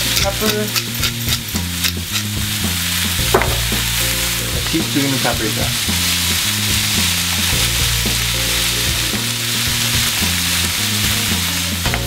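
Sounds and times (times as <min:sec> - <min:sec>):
background music bass notes: 0:00.0 - 0:12.0
vegetables sizzling in oil: 0:00.0 - 0:12.0.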